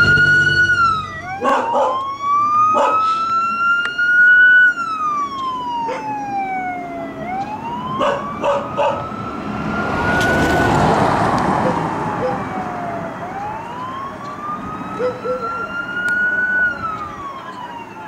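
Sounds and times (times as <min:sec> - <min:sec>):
police siren wailing: 0:00.0 - 0:18.0.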